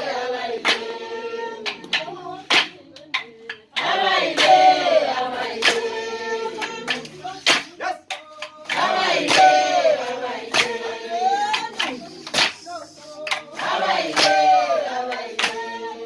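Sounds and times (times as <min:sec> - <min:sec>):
group singing: 0:00.0 - 0:16.0
sharp hand claps: 0:00.6 - 0:01.0, 0:01.6 - 0:06.0, 0:06.6 - 0:15.8.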